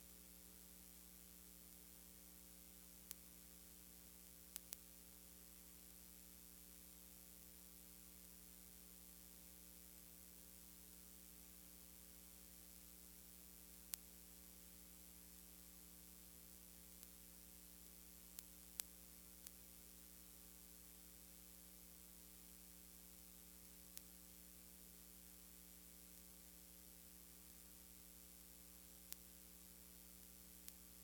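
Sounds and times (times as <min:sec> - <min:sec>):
electrical hum and hiss: 0:00.0 - 0:31.0.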